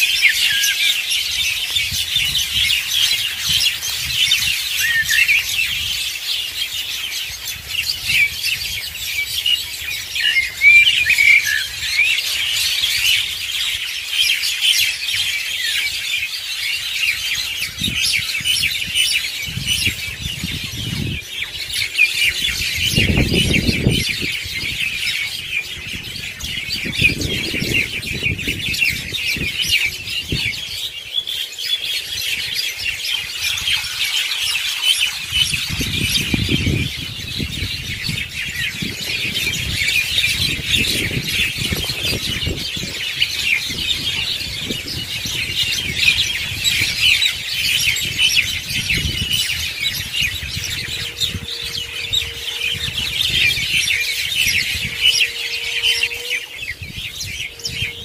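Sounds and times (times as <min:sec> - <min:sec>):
small birds chattering: 0:00.0 - 0:58.0.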